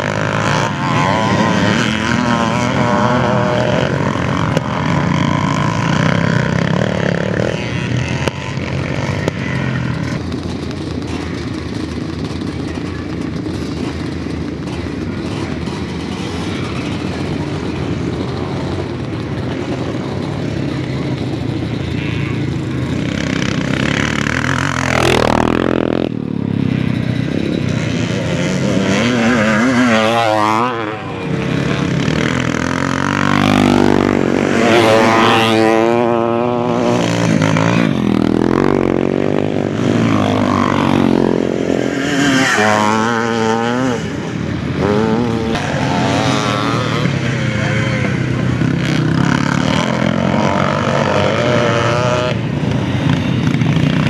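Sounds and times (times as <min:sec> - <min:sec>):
motocross bikes racing past: 0:00.0 - 0:54.0.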